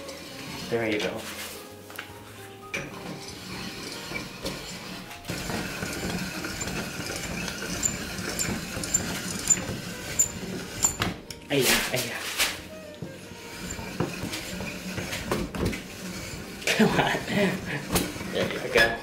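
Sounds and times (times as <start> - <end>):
pasta machine rollers rattling: 0.0 - 1.6, 2.7 - 19.0.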